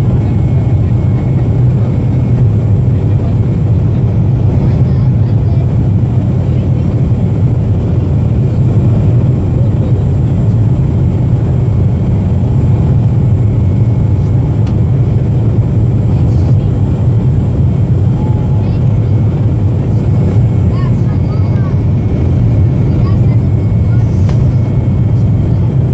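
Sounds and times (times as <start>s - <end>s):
airplane cabin engine rumble: 0.0s - 25.9s.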